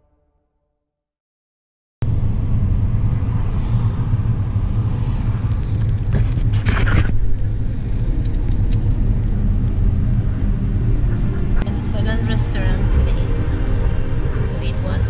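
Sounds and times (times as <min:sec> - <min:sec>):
car road and engine rumble: 0:02.0 - 0:15.0.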